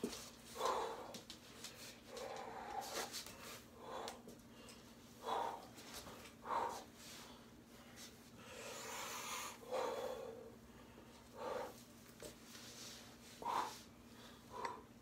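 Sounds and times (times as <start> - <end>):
man's forceful breaths: 0.0 - 12.0, 12.7 - 15.0.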